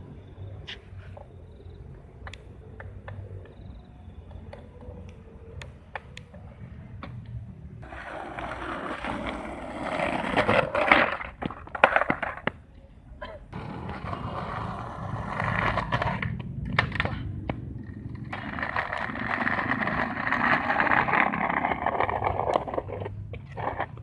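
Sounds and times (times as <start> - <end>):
skateboard wheels rolling on asphalt: 0.0 - 12.8, 13.5 - 24.0
skateboard clacks: 2.2 - 12.7, 13.5 - 24.0.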